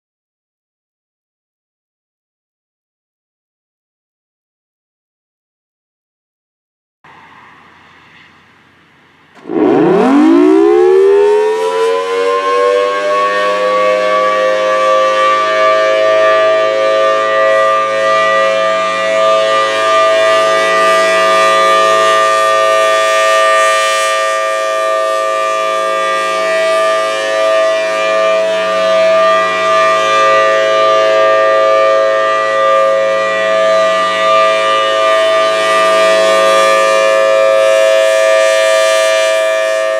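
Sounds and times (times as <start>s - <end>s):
tornado siren wailing: 7.1s - 39.9s.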